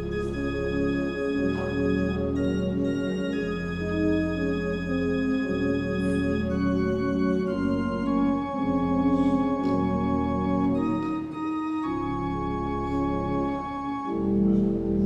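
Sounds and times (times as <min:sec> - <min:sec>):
organ playing slow chords: 0:00.0 - 0:15.0.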